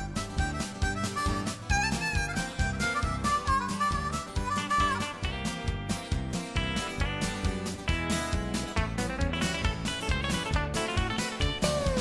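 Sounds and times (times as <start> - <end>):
guitar-led background music: 0.0 - 12.0.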